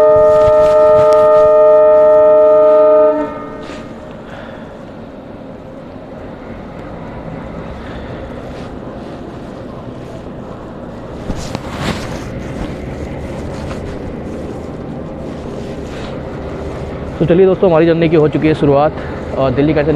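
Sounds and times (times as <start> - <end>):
train clanks: 0.0 - 19.9
train wheels rumbling on track: 0.0 - 19.9.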